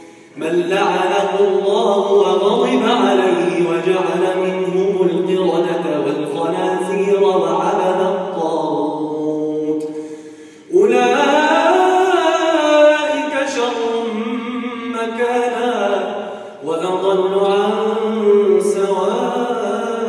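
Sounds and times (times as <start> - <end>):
man chanting melodically: 0.0 - 10.0, 10.7 - 20.0.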